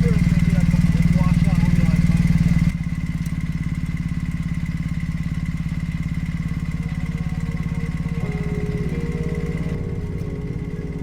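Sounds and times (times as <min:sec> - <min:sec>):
motorcycle engine idling low: 0:00.0 - 0:11.0.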